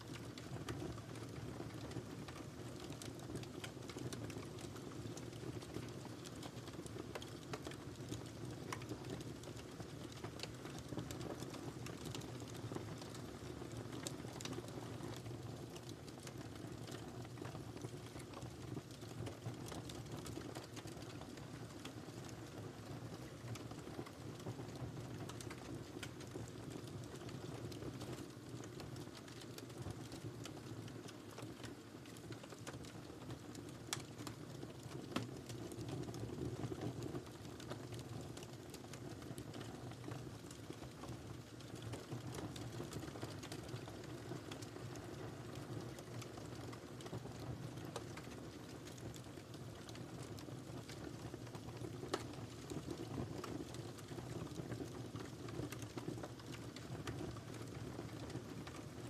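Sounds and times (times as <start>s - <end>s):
wood fire crackling and popping: 0.0s - 59.0s
low rumble of flames: 0.1s - 59.0s.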